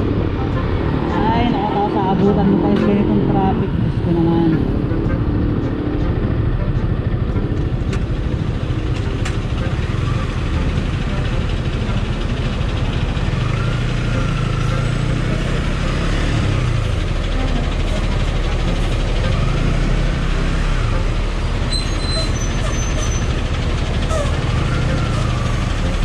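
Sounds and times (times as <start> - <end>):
motorcycle engine rumble: 0.0 - 26.0
road traffic noise: 0.0 - 26.0.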